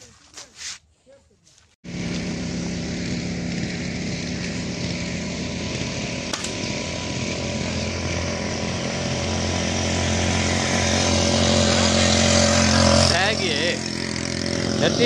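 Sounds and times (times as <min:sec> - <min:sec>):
small engine running: 0:01.8 - 0:15.0.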